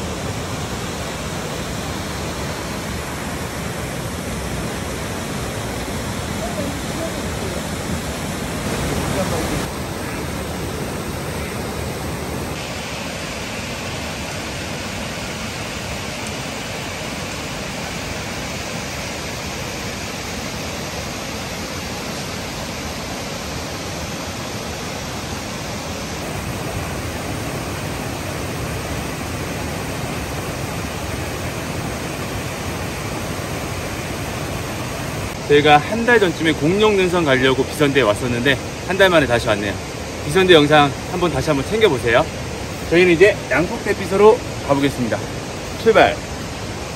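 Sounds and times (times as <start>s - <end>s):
stream rushing over rocks: 0.0s - 46.9s.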